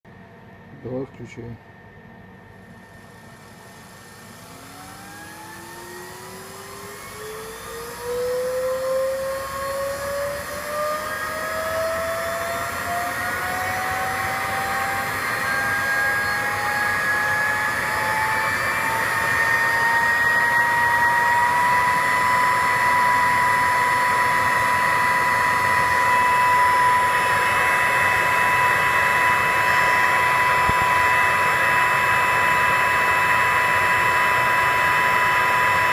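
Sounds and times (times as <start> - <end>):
electric fan whine: 0.1 - 35.9.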